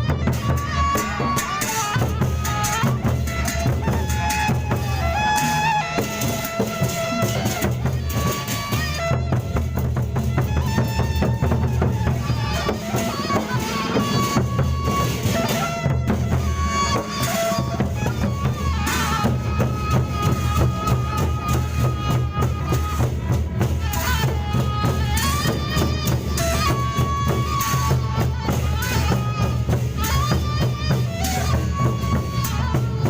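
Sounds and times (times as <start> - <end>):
cymbals clashing: 0.0 - 33.0
held stepwise melody: 0.0 - 33.0
large drums beating: 0.0 - 33.0.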